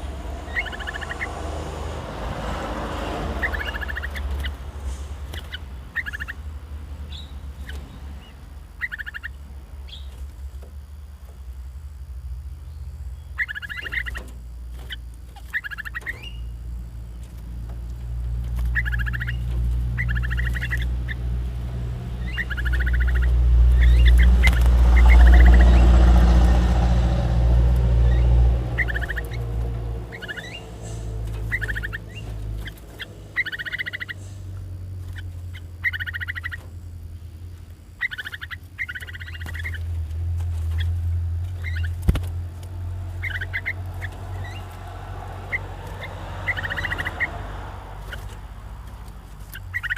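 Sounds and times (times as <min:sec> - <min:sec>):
birds chattering: 0:00.0 - 0:49.9.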